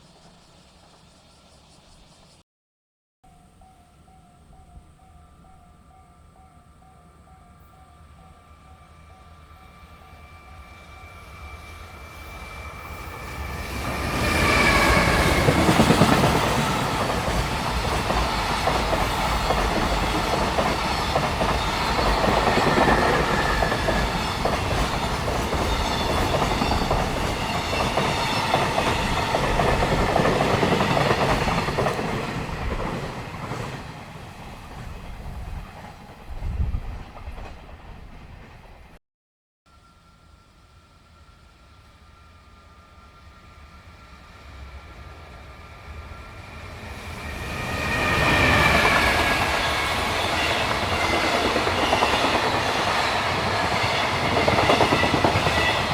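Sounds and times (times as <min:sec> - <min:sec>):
freight train passing: 0:03.3 - 0:39.0, 0:39.8 - 0:55.9.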